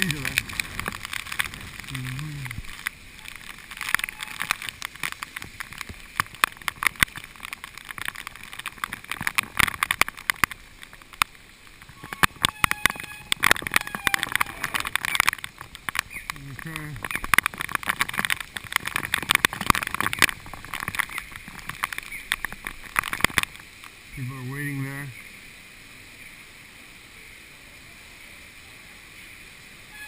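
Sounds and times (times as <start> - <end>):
raindrops tapping on camera housing: 0.0 - 25.4.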